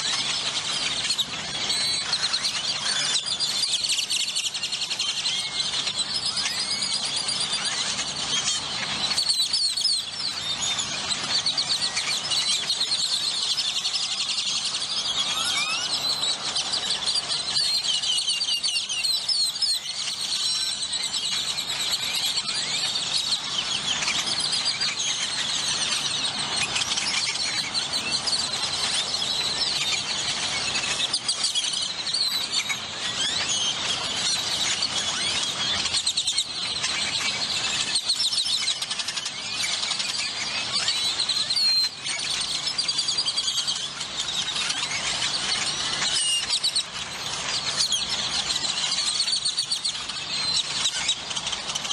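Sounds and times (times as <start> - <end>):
flock of birds calling: 0.0 - 51.9.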